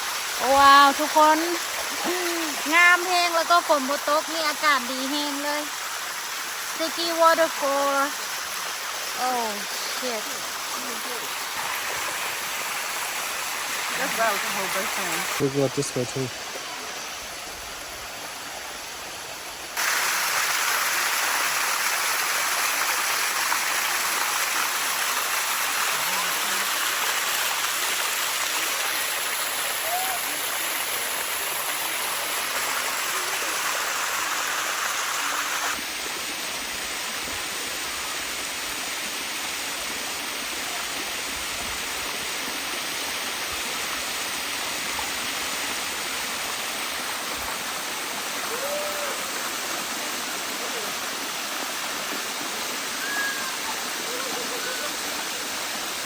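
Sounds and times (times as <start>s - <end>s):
waterfall rushing over rock: 0.0s - 56.0s.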